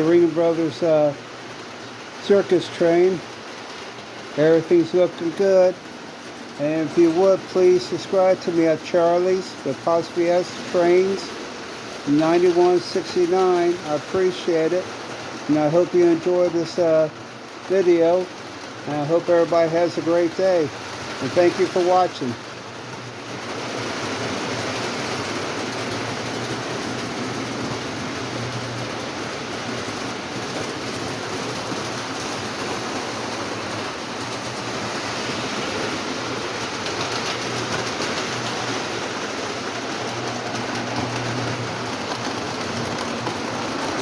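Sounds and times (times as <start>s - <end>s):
model train wheels rattling: 0.0s - 44.0s.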